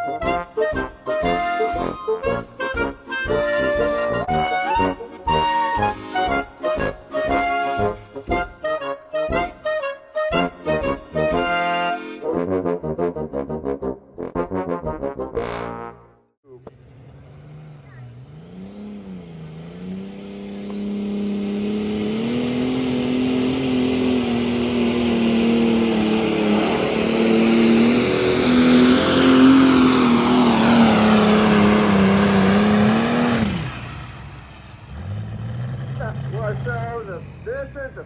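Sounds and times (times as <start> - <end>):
tractor engine at full throttle: 0.0 - 11.9, 16.7 - 38.0.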